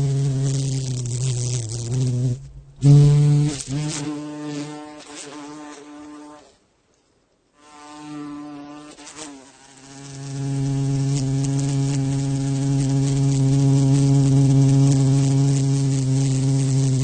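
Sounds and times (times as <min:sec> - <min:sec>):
flying insect buzzing: 0:00.0 - 0:06.6, 0:07.6 - 0:17.0.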